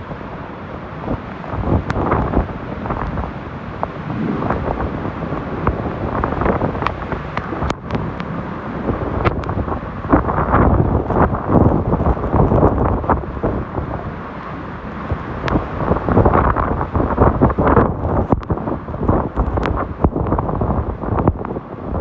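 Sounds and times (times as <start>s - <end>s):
strong wind blasting microphone: 0.0s - 22.0s.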